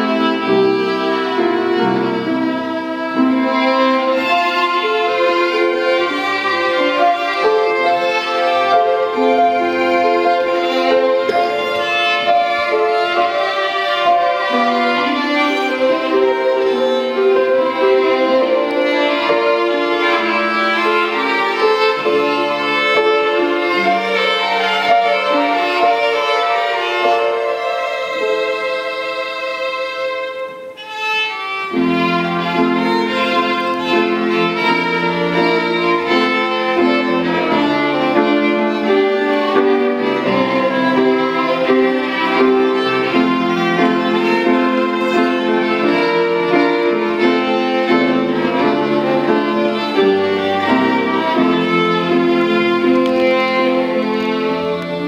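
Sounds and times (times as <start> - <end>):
two violins playing a duet: 0.0 - 55.0.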